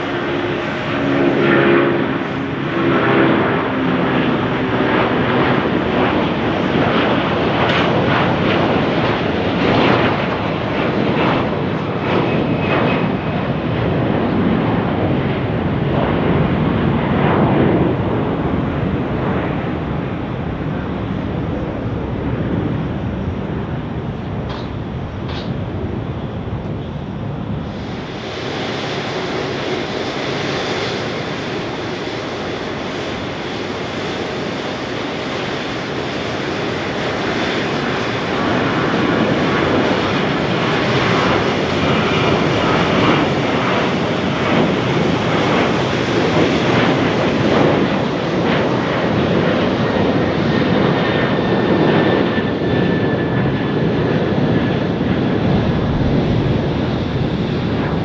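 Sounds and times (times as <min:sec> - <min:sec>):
jet engine noise: 0:00.0 - 0:58.0.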